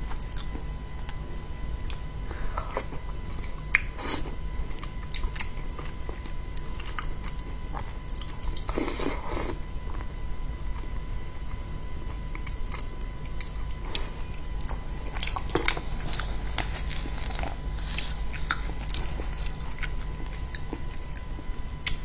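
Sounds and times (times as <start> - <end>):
chewing food: 0.0 - 1.2, 1.8 - 9.1, 11.5 - 22.0.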